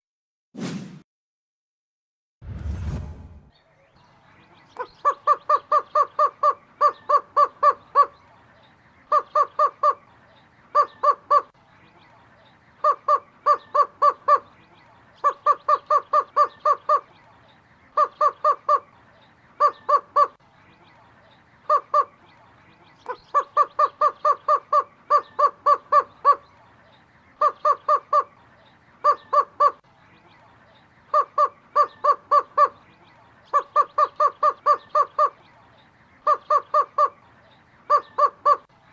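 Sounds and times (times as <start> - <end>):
roadrunner calling: 3.8 - 38.8.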